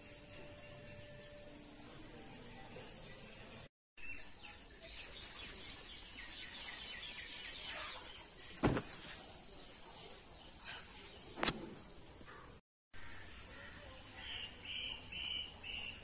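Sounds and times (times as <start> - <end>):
birds chirping: 2.1 - 16.0.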